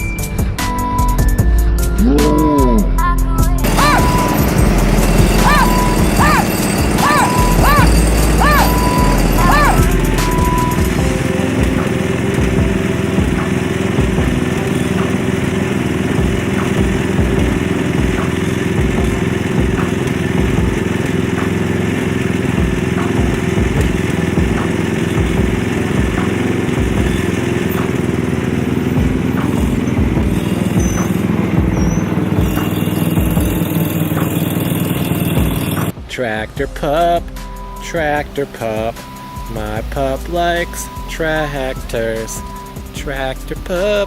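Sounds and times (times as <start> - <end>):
riding lawn mower engine: 0.0 - 44.0.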